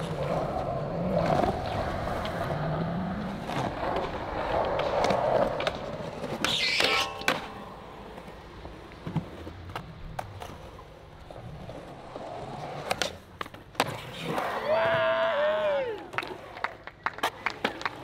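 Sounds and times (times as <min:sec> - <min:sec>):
skateboard grind scrape: 0:00.0 - 0:16.6
skateboard clacks: 0:00.0 - 0:18.0
skateboard wheels rolling on concrete: 0:00.0 - 0:18.0.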